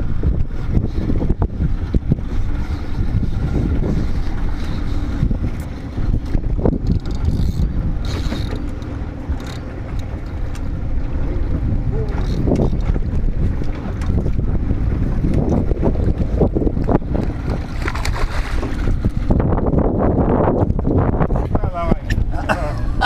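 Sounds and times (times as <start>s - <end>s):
water lapping: 0.0s - 23.0s
wind buffeting microphone: 0.0s - 23.0s.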